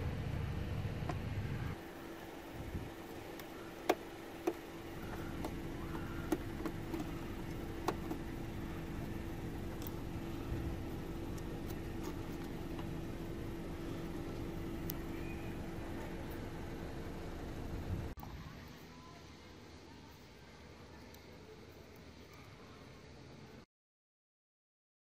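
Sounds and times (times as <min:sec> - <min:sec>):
steady hum: 0:00.0 - 0:23.7.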